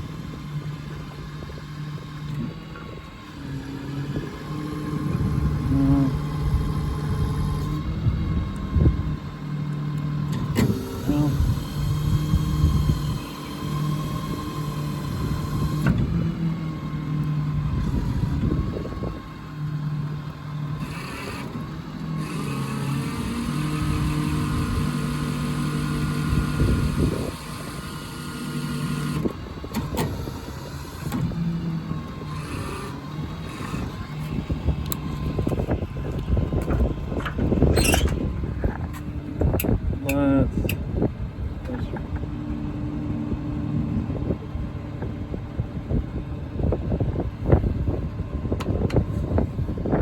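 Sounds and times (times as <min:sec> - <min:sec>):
hydraulic crane droning and whining: 0:00.0 - 0:50.0.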